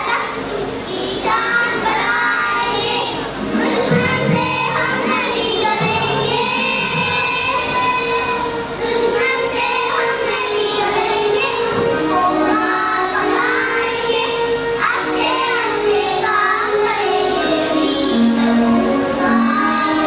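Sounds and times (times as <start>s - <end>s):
young children singing: 0.0s - 20.0s
instrumental accompaniment: 0.1s - 20.0s.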